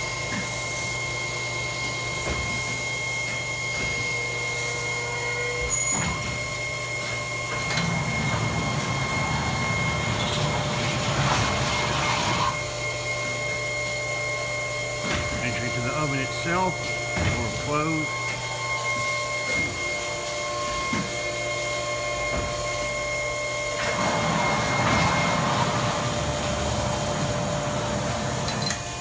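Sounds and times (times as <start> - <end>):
machine electrical hum: 0.0 - 29.0.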